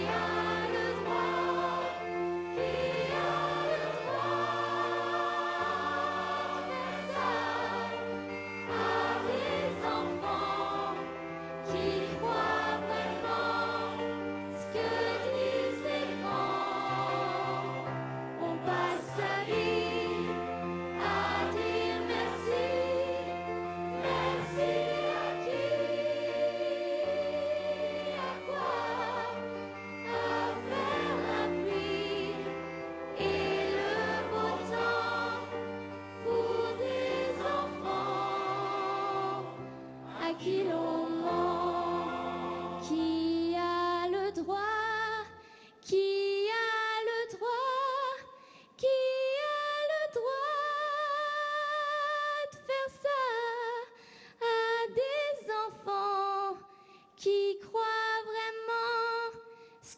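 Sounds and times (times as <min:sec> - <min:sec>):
choir and orchestra: 0:00.0 - 0:59.5.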